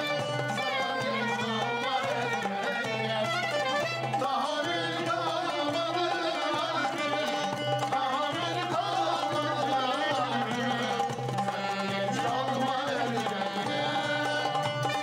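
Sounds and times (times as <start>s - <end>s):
hand drum: 0.0s - 15.0s
person singing: 0.0s - 15.0s.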